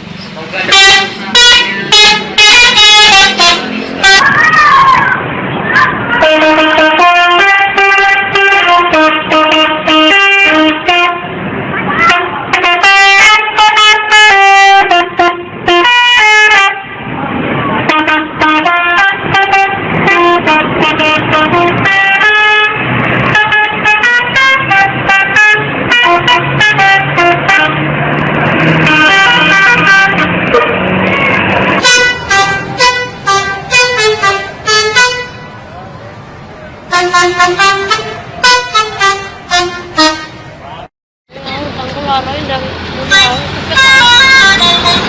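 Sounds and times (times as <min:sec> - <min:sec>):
multi-tone air horns melody: 0:00.7 - 0:04.5, 0:06.1 - 0:11.4, 0:12.0 - 0:17.0, 0:17.8 - 0:35.6, 0:36.9 - 0:40.6, 0:43.1 - 0:45.0.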